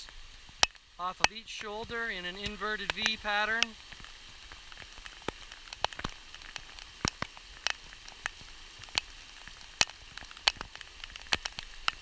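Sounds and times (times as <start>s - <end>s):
heavy rain hissing: 0.0s - 12.0s
raindrops tapping close by: 0.0s - 12.0s.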